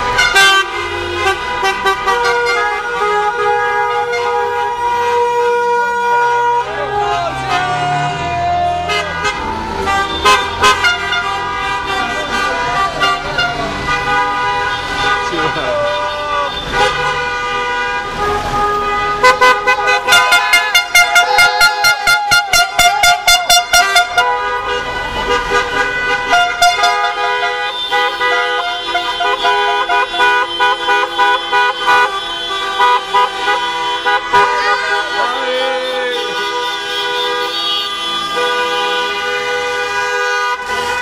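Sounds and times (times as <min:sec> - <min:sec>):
car horns honking: 0:00.0 - 0:41.0
horn tooting rapidly: 0:00.0 - 0:41.0.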